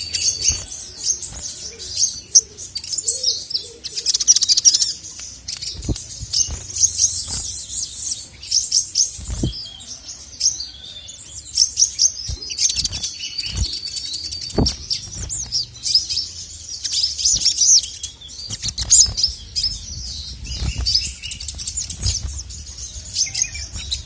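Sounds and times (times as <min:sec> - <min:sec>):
sunbird twittering song: 0:00.0 - 0:24.0.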